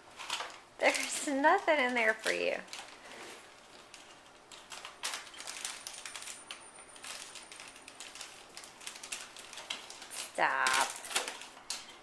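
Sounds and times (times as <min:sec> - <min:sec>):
fridge contents clicking and rattling: 0:00.0 - 0:12.0.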